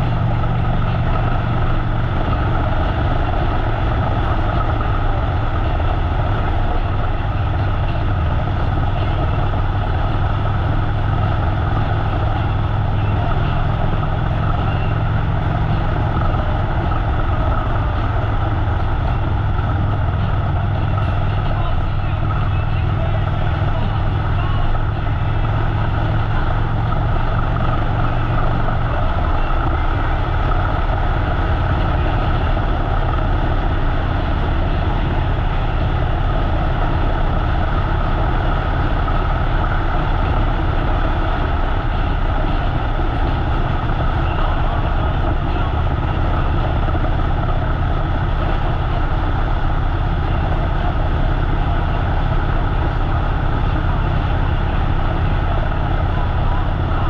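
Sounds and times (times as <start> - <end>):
motorcycle engine running: 0.0 - 57.0
rushing wind: 0.0 - 57.0.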